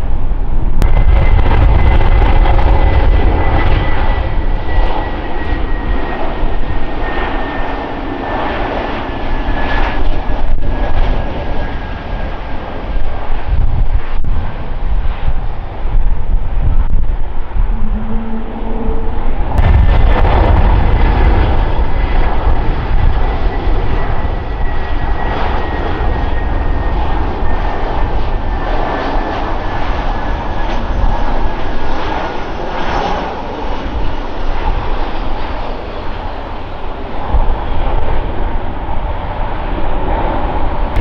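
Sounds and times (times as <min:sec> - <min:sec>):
airliner engines rumbling: 0:00.0 - 0:41.0
faint high engine whine: 0:00.0 - 0:41.0.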